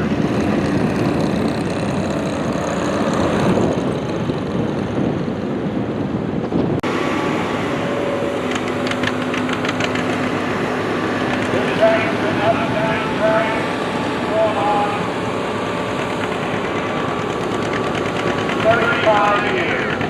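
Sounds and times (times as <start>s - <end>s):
tractor engine running under load: 0.0s - 6.0s, 6.8s - 20.0s.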